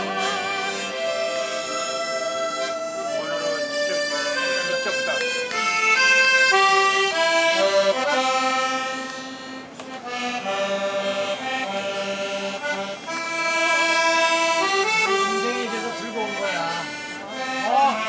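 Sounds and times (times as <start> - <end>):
slow instrumental melody: 0.0 - 18.0.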